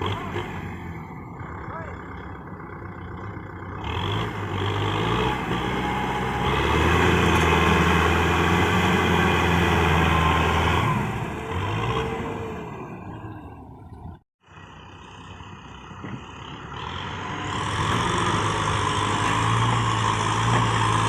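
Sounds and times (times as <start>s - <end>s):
tractor diesel engine revving: 0.0s - 13.7s, 14.4s - 21.0s.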